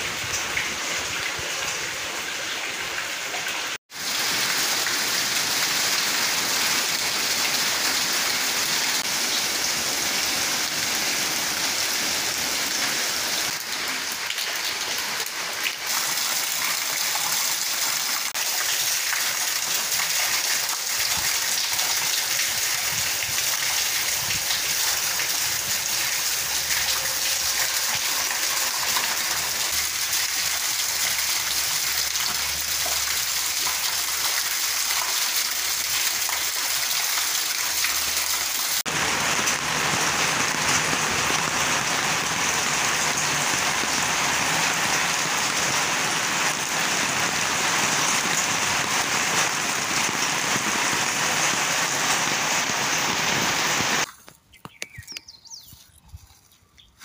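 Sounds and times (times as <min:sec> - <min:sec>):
rain falling on leafy shrubs: 0:00.0 - 0:55.2.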